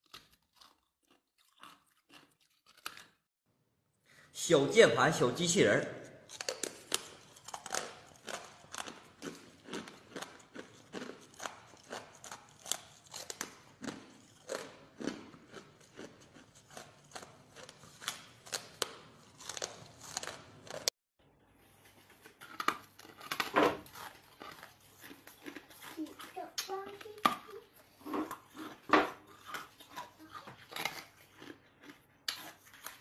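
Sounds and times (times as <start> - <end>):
teeth crunching ice: 0.0 - 3.3, 6.2 - 20.9, 22.3 - 33.0.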